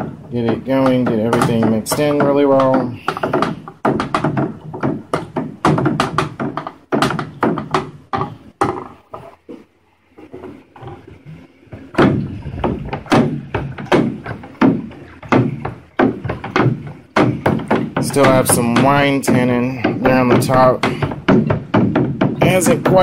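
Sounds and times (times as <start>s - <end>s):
stirrer knocking against vessel: 0.0s - 9.2s, 11.7s - 23.0s.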